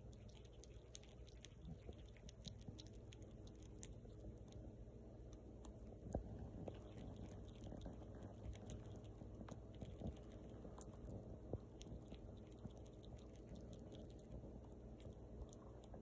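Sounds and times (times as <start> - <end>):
squirrel chewing crunchy snack: 0.0 - 16.0.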